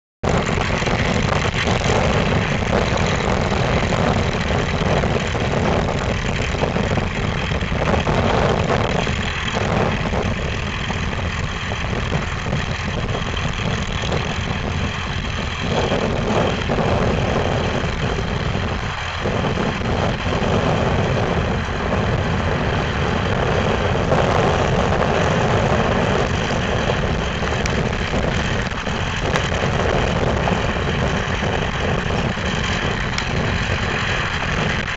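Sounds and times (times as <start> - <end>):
tractor engine under load: 0.2 - 34.9.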